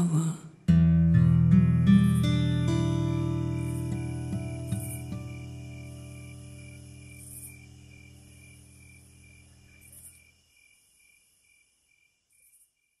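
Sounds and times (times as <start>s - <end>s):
crickets chirping: 0.6s - 13.0s.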